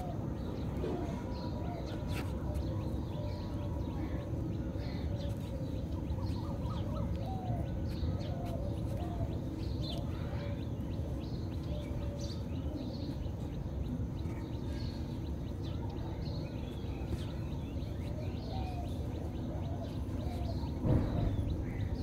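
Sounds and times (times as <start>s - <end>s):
birds chirping: 0.0s - 22.0s
low background noise: 0.0s - 22.0s.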